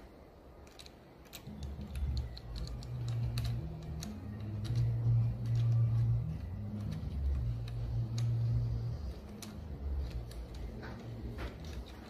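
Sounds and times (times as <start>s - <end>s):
low hum: 0.0s - 12.0s
allen key clicking on screws: 0.6s - 12.0s.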